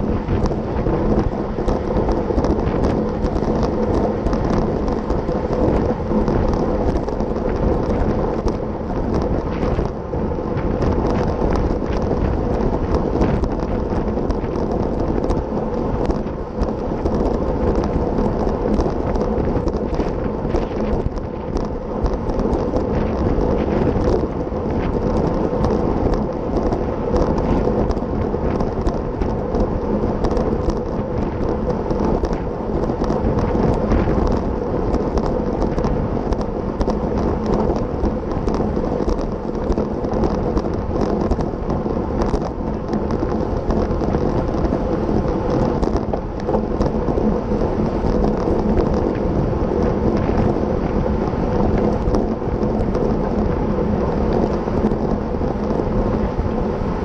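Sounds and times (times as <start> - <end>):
tyre and road noise: 0.0 - 57.0
wind buffeting microphone: 0.0 - 57.0.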